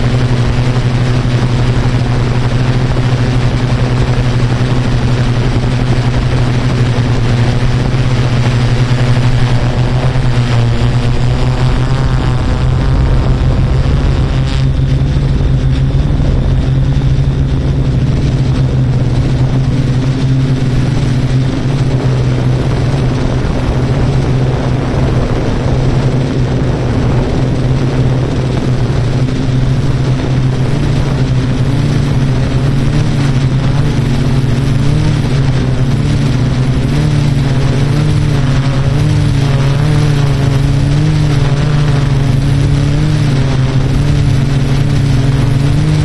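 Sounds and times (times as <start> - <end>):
drone propellers humming: 0.0 - 46.0.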